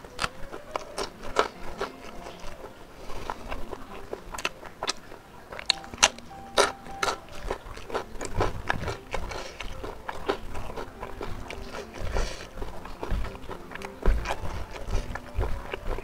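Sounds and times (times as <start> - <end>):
crunching raw bean: 0.0 - 16.0
wet chewing with small clicks: 0.0 - 16.0.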